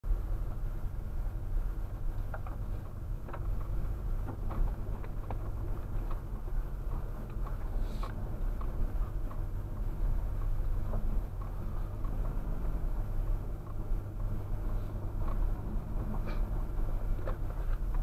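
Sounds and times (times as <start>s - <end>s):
vehicle cabin rumble: 0.0s - 18.0s.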